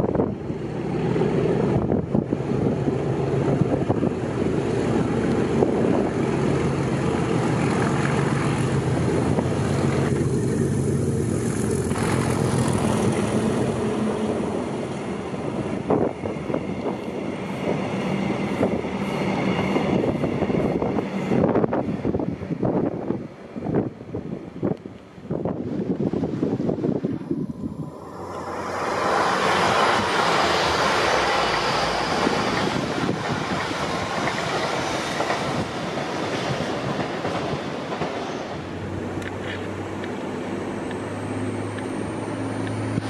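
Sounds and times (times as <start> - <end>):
train wheels clicking on rails: 0.0 - 22.9, 27.9 - 43.0
diesel locomotive engine: 0.0 - 43.0.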